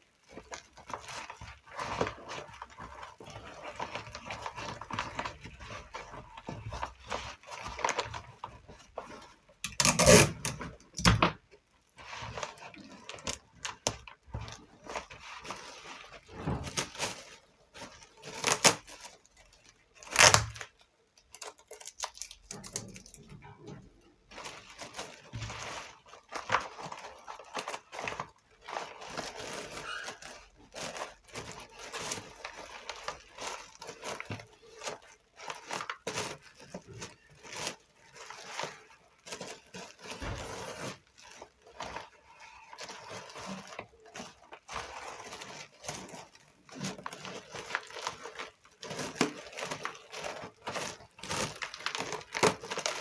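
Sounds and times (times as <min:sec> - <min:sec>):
cardboard rustling and crinkling: 0:00.0 - 0:53.0.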